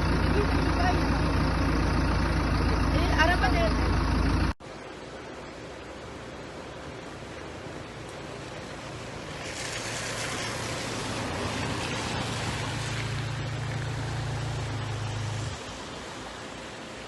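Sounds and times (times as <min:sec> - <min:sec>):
low engine hum: 0:00.0 - 0:05.4, 0:06.2 - 0:17.0.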